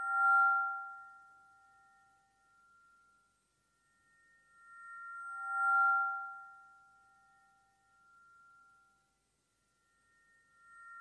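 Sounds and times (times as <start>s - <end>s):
ambient drone music with bell-like tones: 0.0s - 11.0s.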